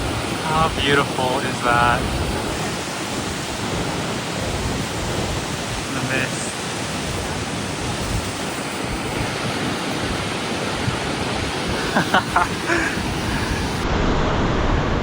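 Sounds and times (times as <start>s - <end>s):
waterfall rushing: 0.0s - 13.8s
wind buffeting microphone: 0.0s - 15.0s.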